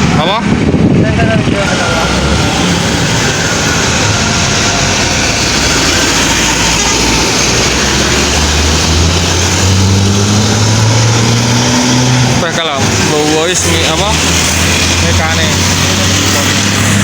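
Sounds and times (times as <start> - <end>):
heavy vehicle engine passing: 0.0 - 17.0
tyre and road noise: 0.0 - 17.0.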